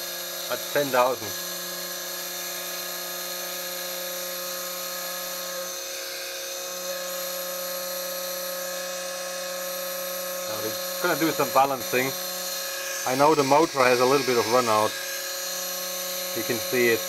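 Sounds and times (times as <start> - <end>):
electric motor hum and whine: 0.0 - 17.0.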